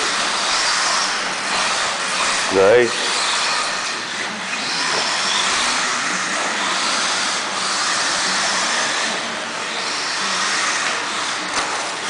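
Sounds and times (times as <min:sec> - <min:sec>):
electric buggies whining and hissing: 0:00.0 - 0:12.0.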